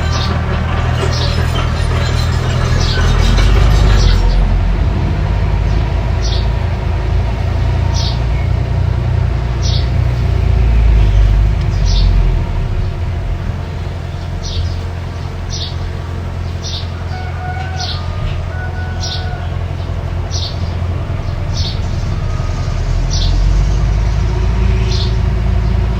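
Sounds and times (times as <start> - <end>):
bulldozer engine rumbling: 0.0 - 25.9.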